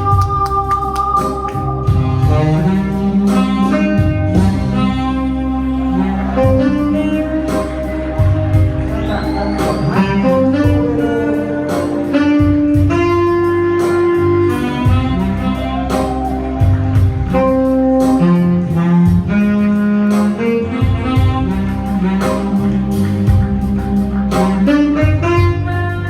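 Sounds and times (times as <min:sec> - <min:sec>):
slow instrumental ballad: 0:00.0 - 0:26.0.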